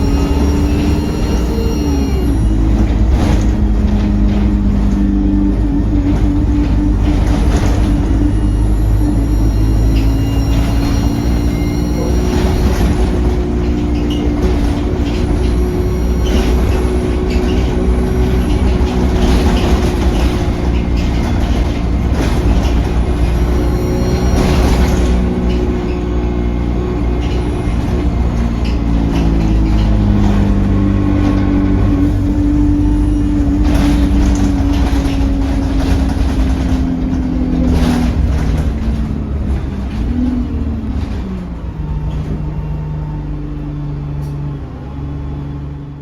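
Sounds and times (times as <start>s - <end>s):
rattles and knocks: 0.0s - 42.5s
bus engine drone: 0.0s - 46.0s.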